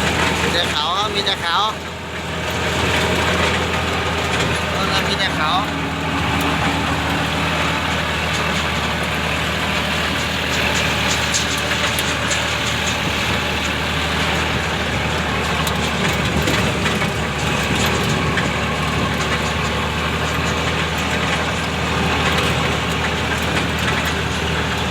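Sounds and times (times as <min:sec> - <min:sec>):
vehicle engine running steadily: 0:00.0 - 0:24.9.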